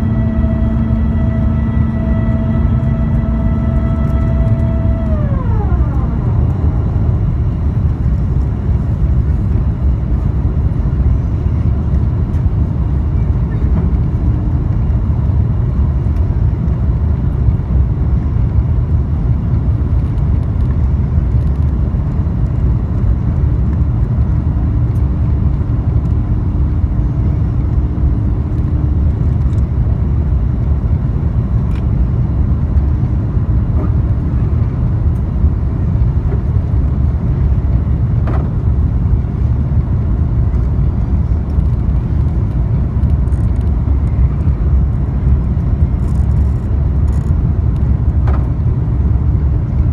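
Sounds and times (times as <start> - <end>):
jet engines roaring in cabin: 0.0 - 49.9.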